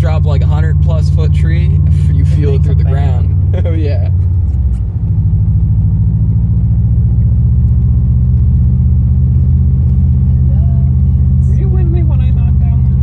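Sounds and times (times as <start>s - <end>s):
engine and exhaust droning: 0.0s - 13.0s.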